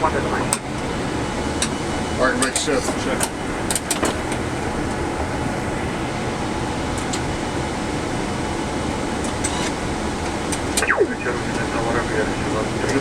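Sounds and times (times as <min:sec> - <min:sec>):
air-conditioning airflow: 0:00.0 - 0:13.0
jet engines idling: 0:00.0 - 0:13.0.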